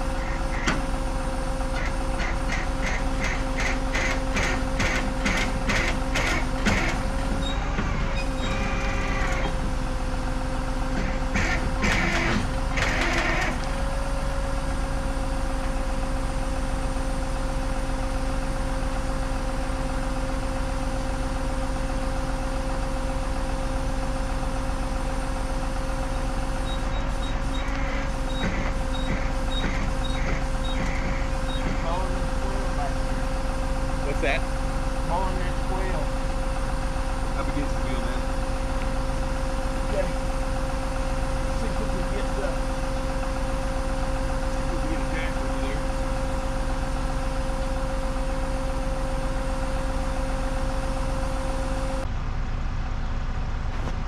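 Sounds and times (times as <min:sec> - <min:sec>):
constant whine: 0:00.0 - 0:54.0
truck engine running: 0:00.0 - 0:54.0.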